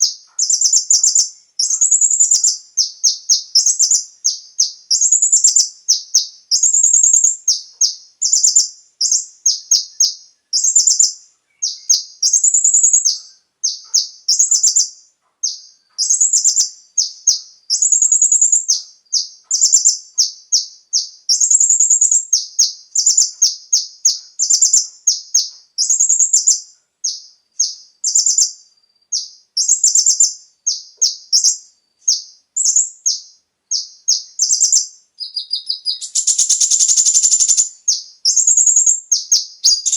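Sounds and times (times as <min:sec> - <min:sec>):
sunbird trilling and chattering: 0:00.0 - 0:39.9.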